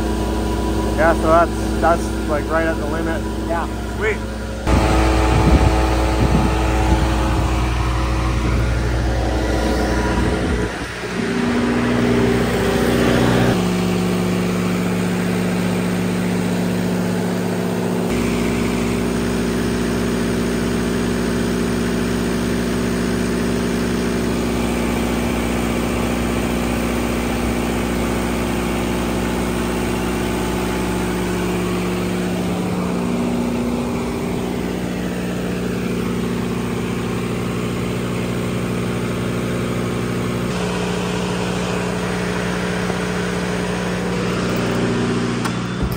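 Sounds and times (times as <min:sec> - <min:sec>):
diesel generator humming: 0:00.0 - 0:45.9.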